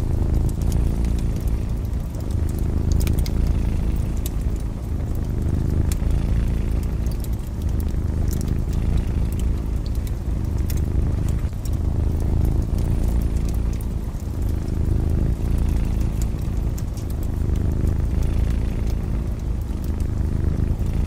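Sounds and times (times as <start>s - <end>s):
cat purring: 0.0s - 21.0s
wood fire crackling: 0.0s - 21.0s.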